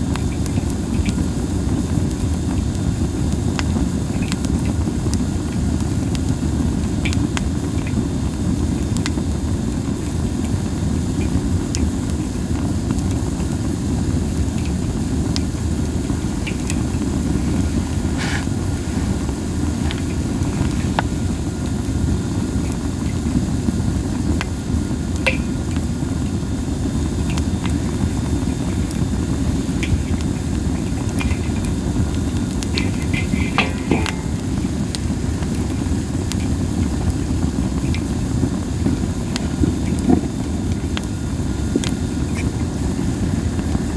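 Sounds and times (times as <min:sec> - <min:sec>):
low fire rumble: 0:00.0 - 0:43.9
wood fire crackling and popping: 0:00.0 - 0:43.9.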